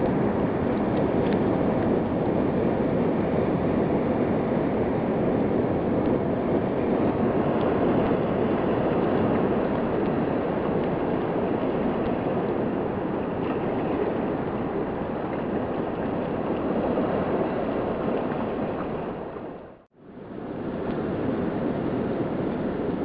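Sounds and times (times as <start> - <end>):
seashore rushing: 0.0 - 23.0.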